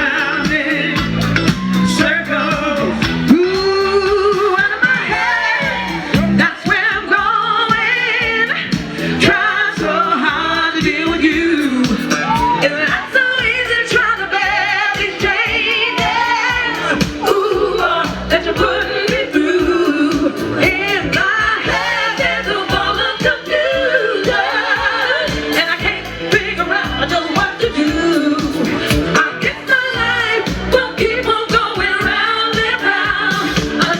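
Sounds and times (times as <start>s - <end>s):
singer with vibrato vocal: 0.0s - 33.9s
soul music through a loud pa: 0.0s - 33.9s.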